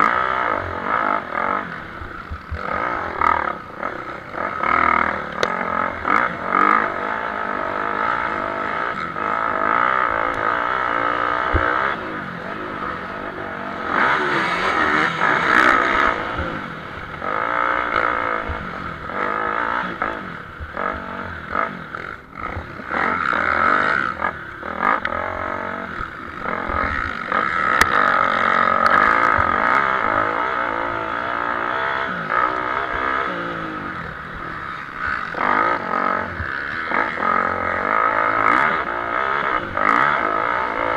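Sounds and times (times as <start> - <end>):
motocross motorcycle engines revving: 0.0 - 40.9.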